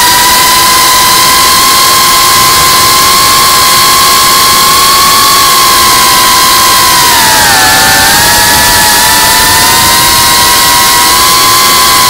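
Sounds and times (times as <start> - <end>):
drone high whine: 0.0 - 12.0.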